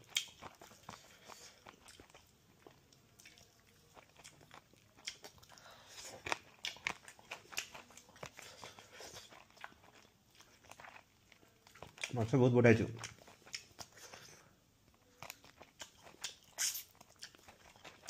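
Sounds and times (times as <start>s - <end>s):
person chewing crunchy food: 0.0s - 18.0s.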